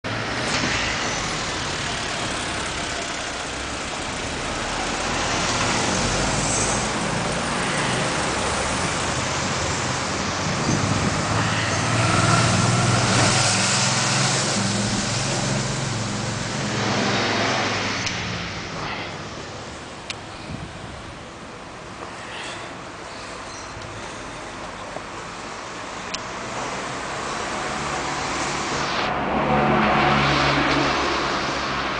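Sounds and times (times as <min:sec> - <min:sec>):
cars passing: 0:00.0 - 0:31.9.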